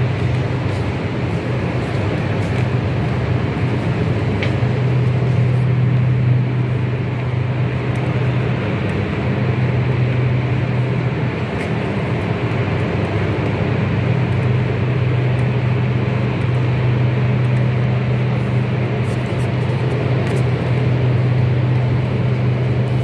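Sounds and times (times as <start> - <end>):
broad rushing noise: 0.0 - 23.0
low mechanical hum: 0.0 - 23.0.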